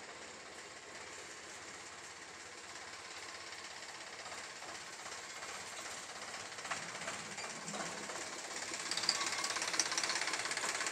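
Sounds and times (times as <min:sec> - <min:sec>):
tractor diesel engine idling: 0:00.1 - 0:10.9.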